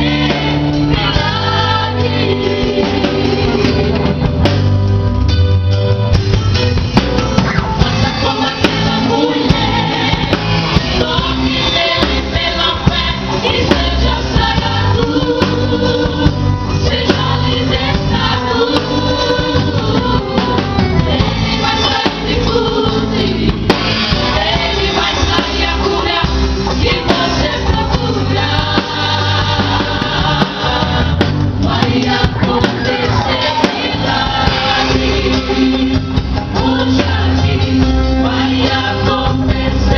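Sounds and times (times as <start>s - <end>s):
group singing gospel song: 0.0s - 4.4s, 7.8s - 39.9s
band with drums and guitar: 0.0s - 39.9s.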